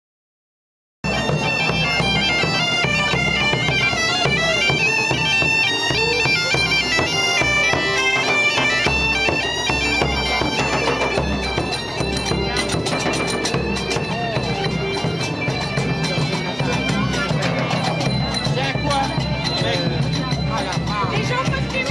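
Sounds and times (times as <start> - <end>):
bagpipes playing a tune: 1.0 - 21.9.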